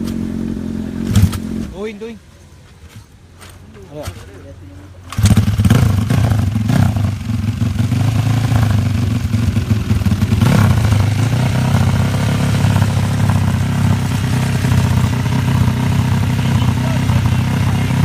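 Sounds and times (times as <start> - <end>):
motorcycle engine running: 0.0 - 1.8, 5.0 - 18.0.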